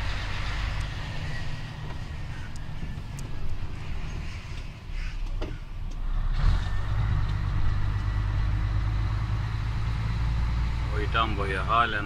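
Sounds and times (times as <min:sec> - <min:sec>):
diesel truck engine running: 0:00.0 - 0:04.6, 0:05.8 - 0:12.0.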